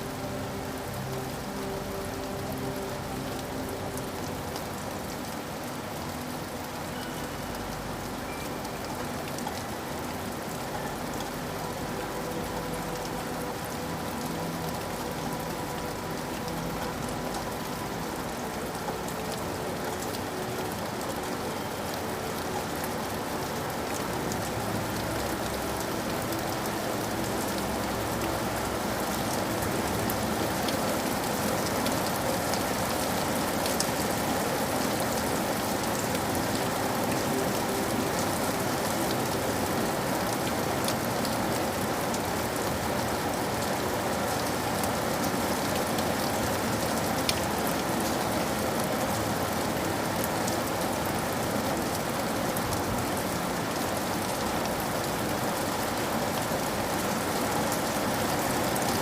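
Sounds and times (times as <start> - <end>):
raindrops pattering on a surface: 0.0 - 59.0
steady rain: 0.0 - 59.0.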